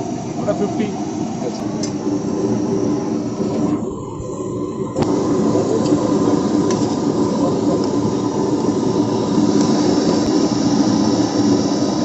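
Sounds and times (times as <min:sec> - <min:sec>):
train rumble and hum: 0:00.0 - 0:12.0.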